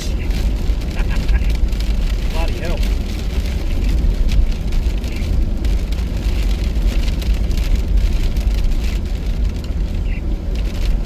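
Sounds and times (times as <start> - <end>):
car driving on wet road: 0.0 - 11.0
heavy rain on car body: 0.0 - 11.0.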